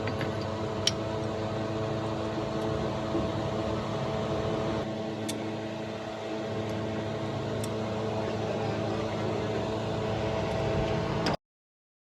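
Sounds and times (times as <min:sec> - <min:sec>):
steady mechanical hum: 0:00.0 - 0:11.4.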